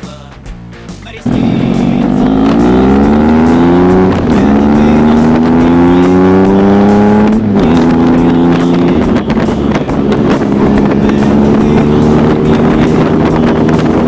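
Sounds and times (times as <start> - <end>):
motorcycle engine accelerating: 1.2 - 14.0.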